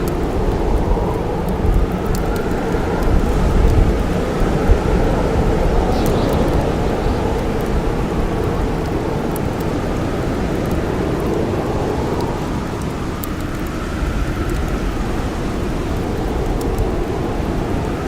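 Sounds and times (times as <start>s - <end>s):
campfire crackling: 0.0s - 18.0s
snowstorm wind rushing: 0.0s - 18.0s.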